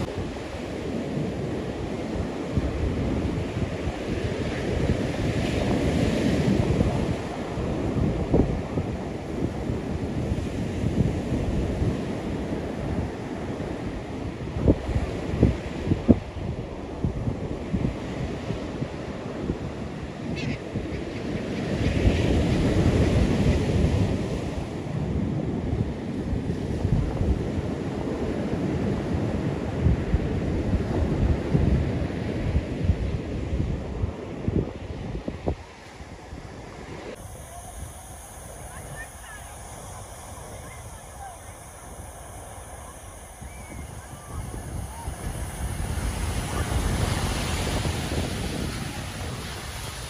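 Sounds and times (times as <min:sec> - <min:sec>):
ocean surf: 0:00.0 - 0:50.0
wind buffeting microphone: 0:00.0 - 0:50.0.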